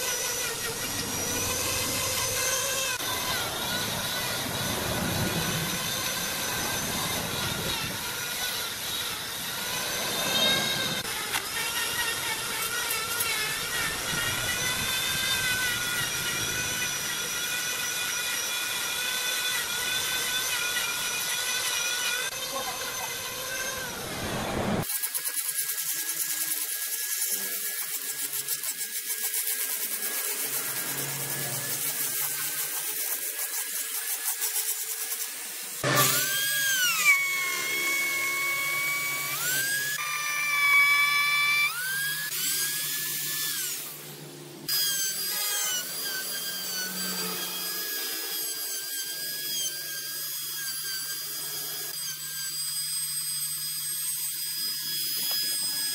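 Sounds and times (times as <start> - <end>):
power carving tools whining: 0.0 - 55.9.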